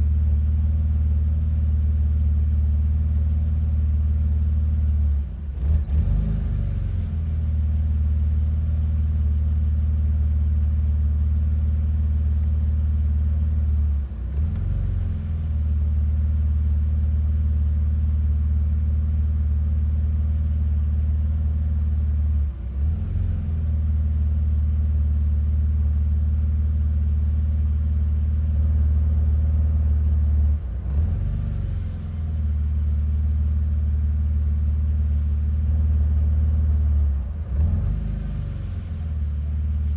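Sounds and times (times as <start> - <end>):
car engine idling rough: 0.0 - 39.9.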